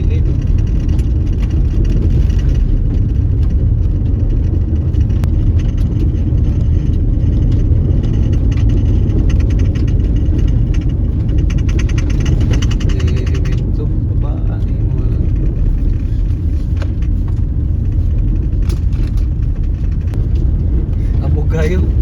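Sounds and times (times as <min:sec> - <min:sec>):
car tyres and engine rumbling: 0:00.0 - 0:22.0.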